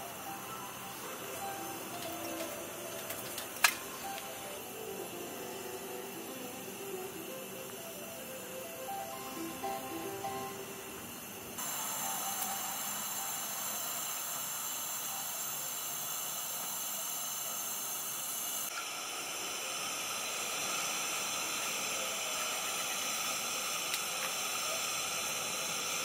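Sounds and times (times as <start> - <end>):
pressure lantern hissing: 0.0 - 26.0.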